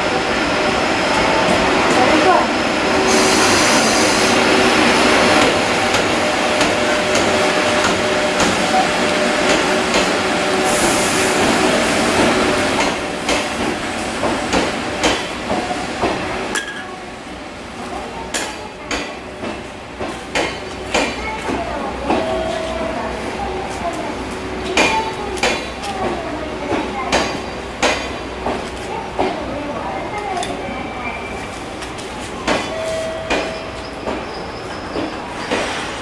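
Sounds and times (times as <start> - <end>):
hum of train wheels: 0.0 - 36.0
train rumbling past: 0.0 - 36.0.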